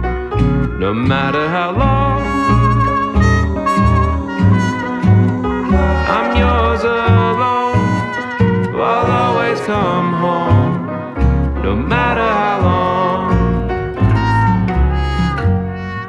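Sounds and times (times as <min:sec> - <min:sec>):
gentle country music: 0:00.0 - 0:16.0.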